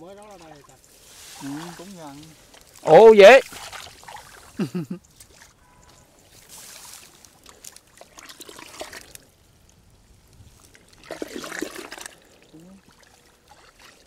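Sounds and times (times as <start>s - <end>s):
shallow water trickling: 0.0s - 14.0s.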